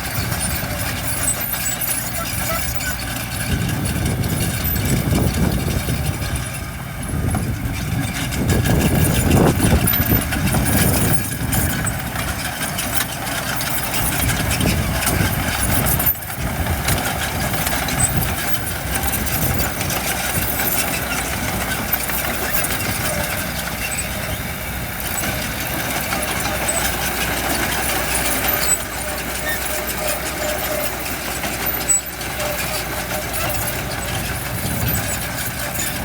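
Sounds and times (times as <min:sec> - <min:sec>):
heavy diesel machinery running: 0:00.0 - 0:36.0.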